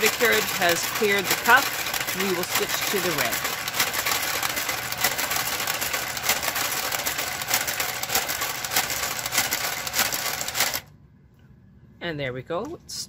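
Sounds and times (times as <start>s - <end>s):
knitting machine carriage whirring: 0.0s - 10.9s.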